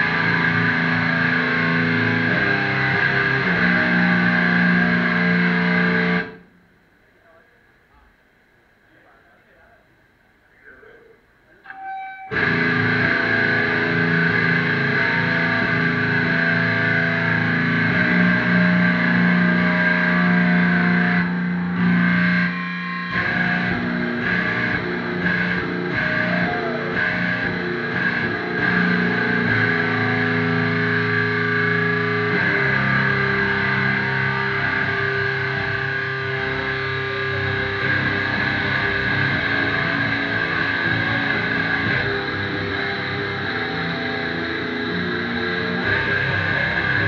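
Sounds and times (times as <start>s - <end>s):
distorted electric guitar chords: 0.0s - 6.6s, 11.6s - 47.0s.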